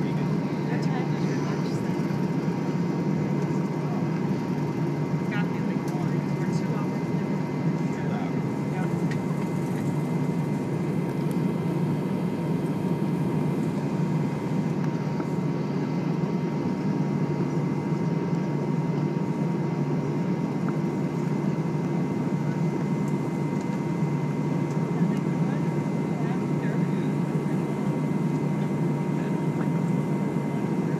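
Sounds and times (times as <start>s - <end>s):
aircraft cabin engine drone: 0.0s - 30.9s
thin steady whine: 0.0s - 30.9s.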